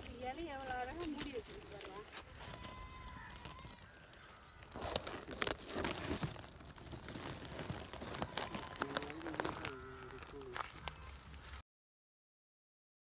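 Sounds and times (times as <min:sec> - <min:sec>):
leaves and dry grass rustling: 0:00.0 - 0:11.6.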